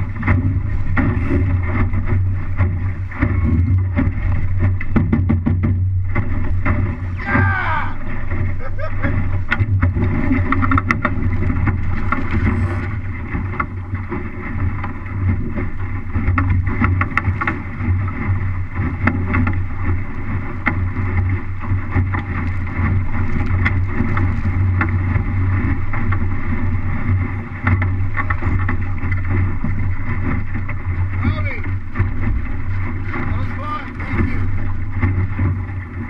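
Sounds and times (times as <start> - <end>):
short knocks and splashes: 0.0 - 36.0
water rushing along boat hull: 0.0 - 36.0.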